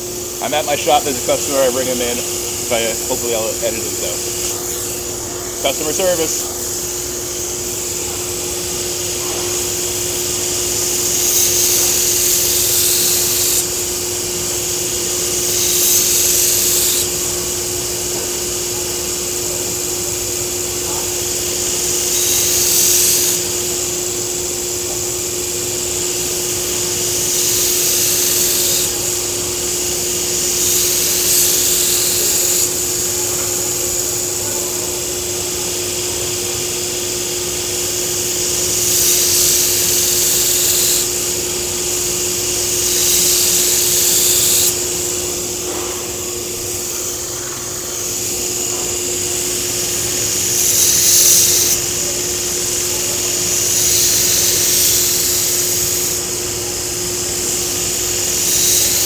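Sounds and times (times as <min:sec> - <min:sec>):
belt grinder motor hum: 0:00.0 - 0:59.0
blade grinding hiss: 0:00.0 - 0:59.0.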